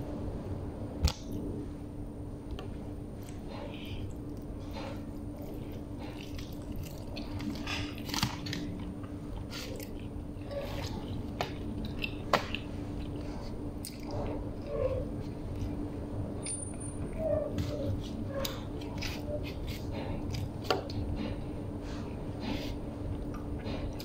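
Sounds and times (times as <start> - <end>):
person chewing bread: 3.1 - 16.0, 17.0 - 24.0.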